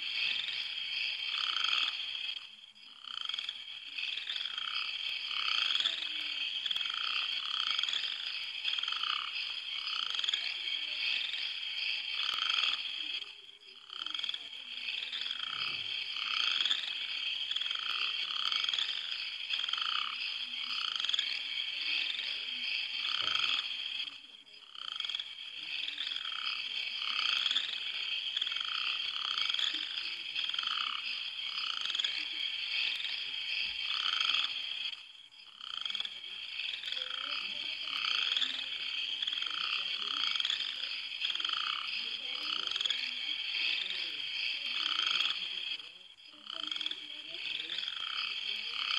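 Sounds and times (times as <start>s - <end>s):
frogs croaking: 0.0s - 48.9s.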